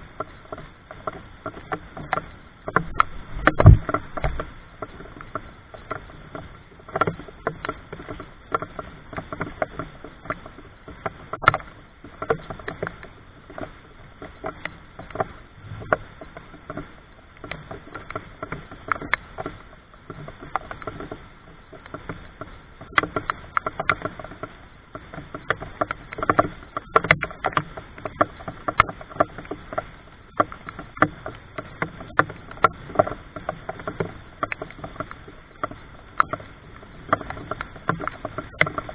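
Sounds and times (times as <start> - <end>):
rainwater dripping and splashing: 0.0 - 38.9.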